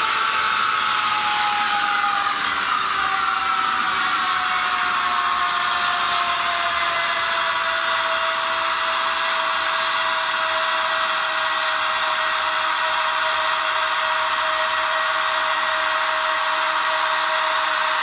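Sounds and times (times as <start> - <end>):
falling whining tones: 0.0 - 18.0.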